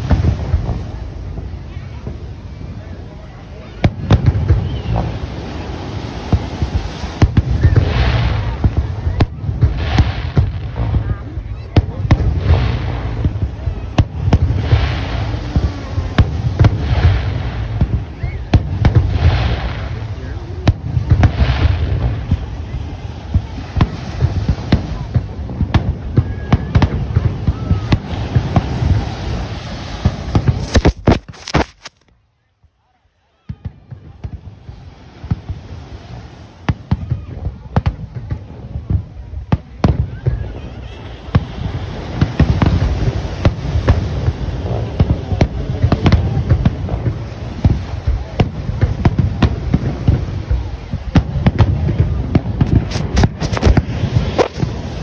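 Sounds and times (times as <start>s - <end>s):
firework bangs: 0.0s - 32.1s, 33.4s - 55.0s
firework crackling hiss: 0.0s - 32.1s, 34.0s - 55.0s.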